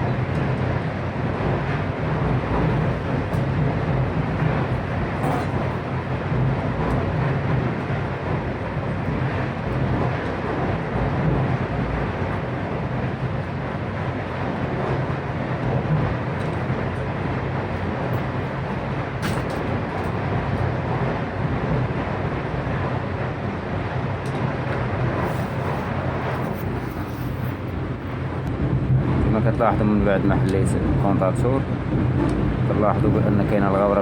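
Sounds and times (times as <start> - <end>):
mechanical rumble with hum: 0.0 - 34.0.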